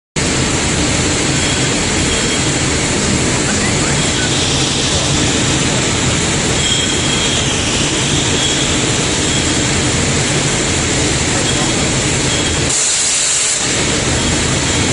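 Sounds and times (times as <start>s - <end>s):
coating line machinery hum: 0.2s - 14.9s.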